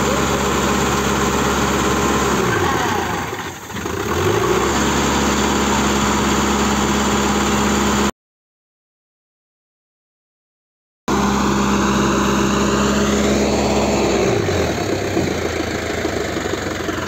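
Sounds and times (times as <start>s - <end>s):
tractor diesel engine running: 0.0s - 8.1s, 11.1s - 17.0s.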